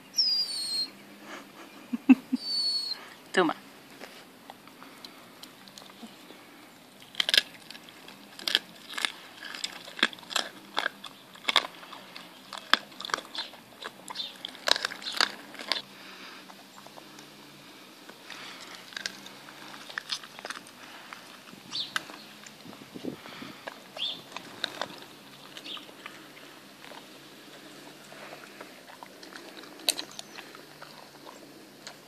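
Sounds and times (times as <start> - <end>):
dog chewing with sharp crunches: 2.4 - 32.0.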